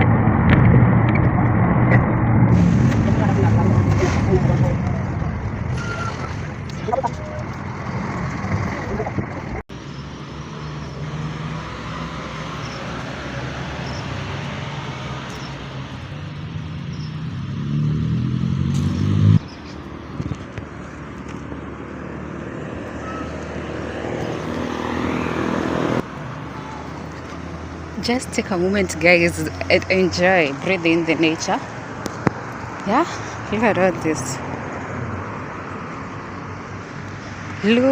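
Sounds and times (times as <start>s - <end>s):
road noise: 0.0s - 37.9s
vehicle engine accelerating: 0.0s - 37.9s.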